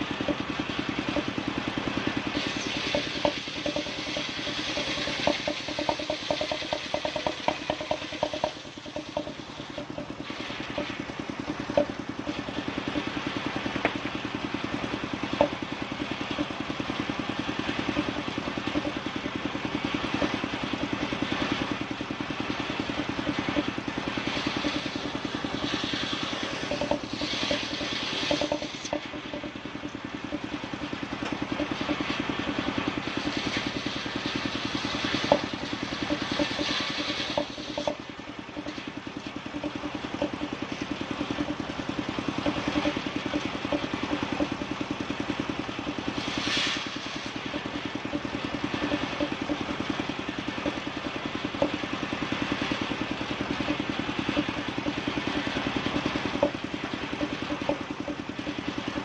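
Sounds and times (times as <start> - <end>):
engine-driven wood saw running: 0.0 - 59.0.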